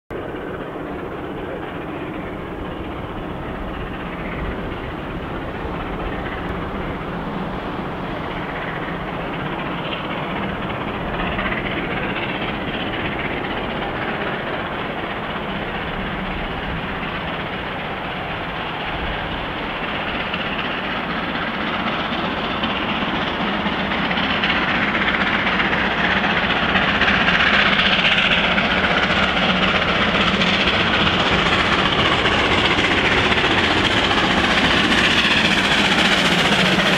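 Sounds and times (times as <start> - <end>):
steam locomotive exhaust and running: 0.1 - 36.9.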